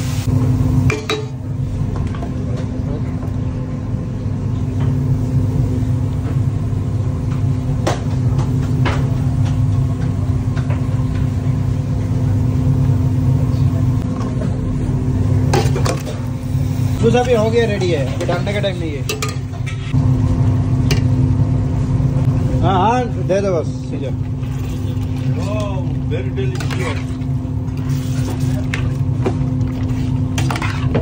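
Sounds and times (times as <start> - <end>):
kitchen machinery humming: 0.0 - 31.0.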